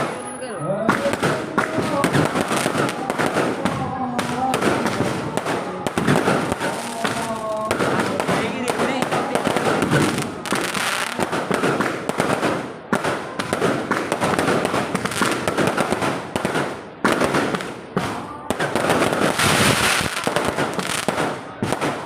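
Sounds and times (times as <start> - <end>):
fireworks and firecrackers banging: 0.0 - 22.0.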